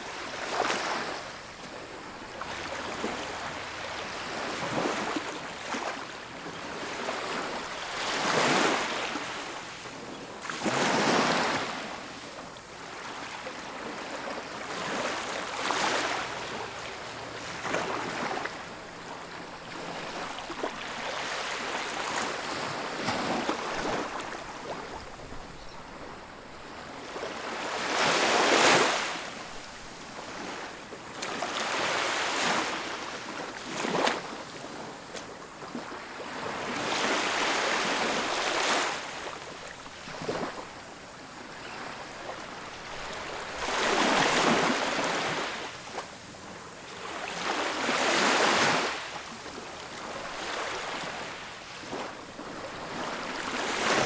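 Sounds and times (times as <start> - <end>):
ocean waves breaking on a beach: 0.0 - 54.0.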